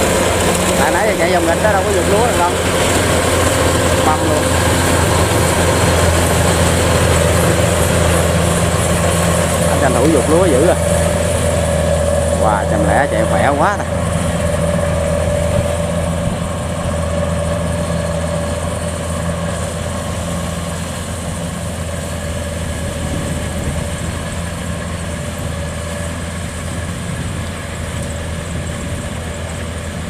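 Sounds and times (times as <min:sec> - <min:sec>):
combine harvester engine drone: 0:00.0 - 0:30.0
high machine whine: 0:00.0 - 0:30.0.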